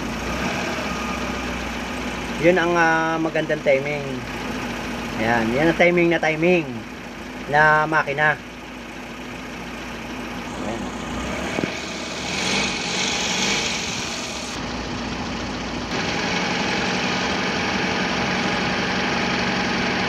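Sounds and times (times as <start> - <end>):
petrol engine idling: 0.0 - 20.0.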